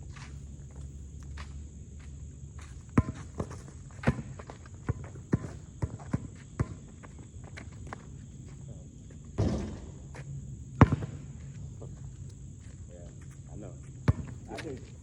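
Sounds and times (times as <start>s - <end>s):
footsteps on hard court: 0.1s - 15.0s.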